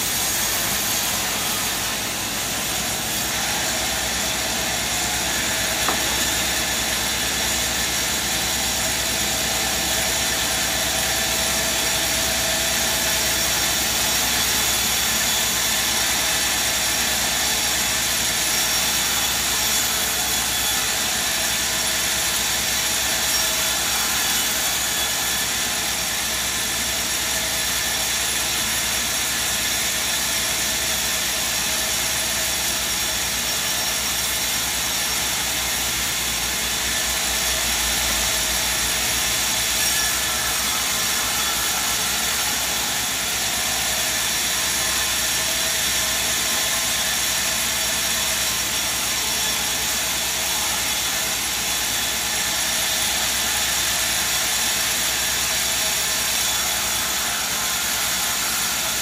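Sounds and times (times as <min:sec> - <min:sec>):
band saw running: 0:00.0 - 0:59.0.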